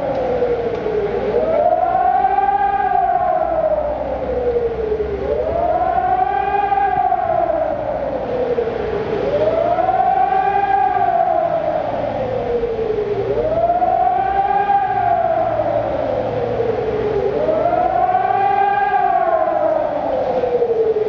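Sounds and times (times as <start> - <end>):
distant sirens: 0.0 - 21.0
siren wailing: 0.0 - 21.0.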